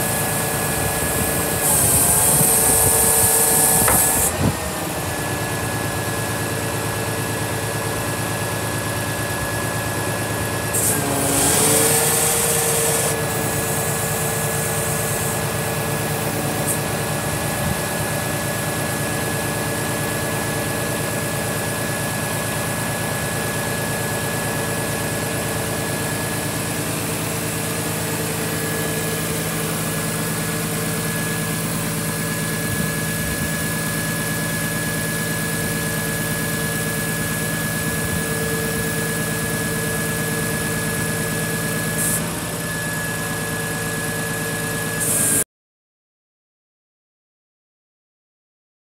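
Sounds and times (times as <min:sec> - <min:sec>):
hydraulic pump whining: 0:00.0 - 0:45.4.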